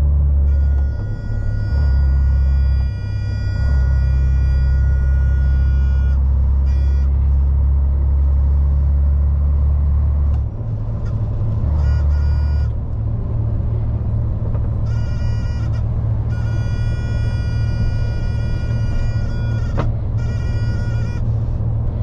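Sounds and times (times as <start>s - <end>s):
diesel lorry engine drone: 0.0s - 22.0s.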